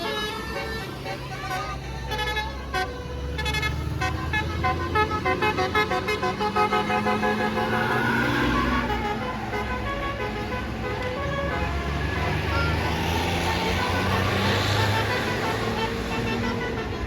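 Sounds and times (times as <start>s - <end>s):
bus air horn melody: 0.0s - 17.0s
bus engine passing: 0.0s - 17.0s.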